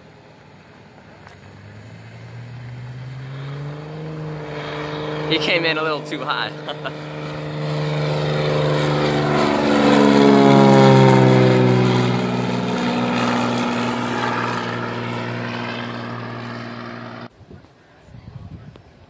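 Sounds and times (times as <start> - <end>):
propeller airplane passing: 0.0 - 17.3.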